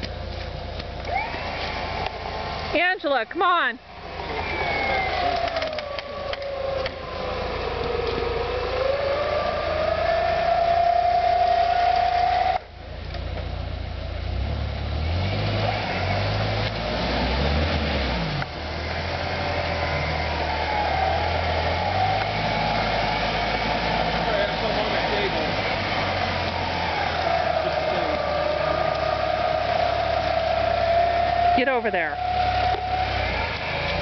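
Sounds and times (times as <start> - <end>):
engine revving in mud: 0.0 - 34.0.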